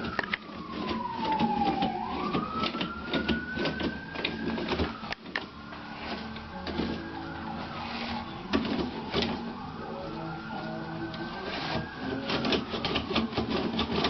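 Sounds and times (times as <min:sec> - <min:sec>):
toilet paper roll rustling: 0:00.0 - 0:14.0.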